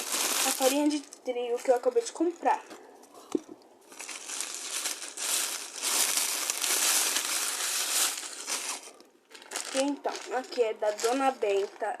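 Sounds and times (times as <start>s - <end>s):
flour package crinkling: 0.0s - 2.5s, 3.9s - 12.0s.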